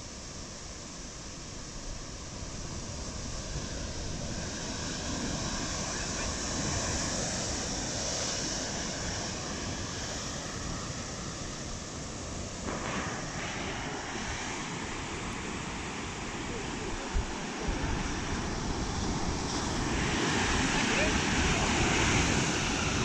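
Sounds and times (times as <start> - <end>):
sea surf churning against rocks: 2.2 - 23.0.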